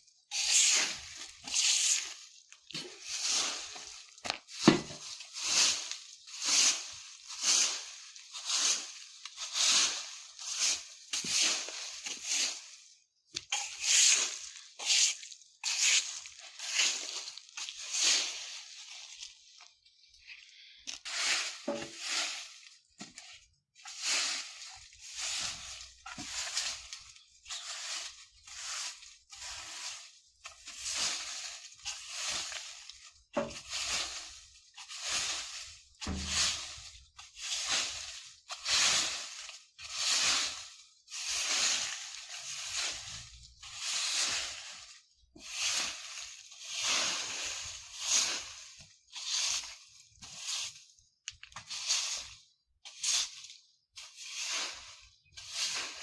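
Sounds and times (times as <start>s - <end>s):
broom sweeping dry leaves: 0.1s - 20.1s, 20.9s - 56.0s.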